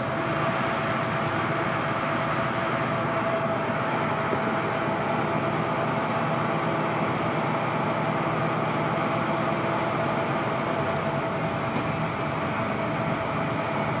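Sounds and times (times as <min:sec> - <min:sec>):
boat engine drone with whine: 0:00.0 - 0:14.0
wind: 0:00.0 - 0:14.0.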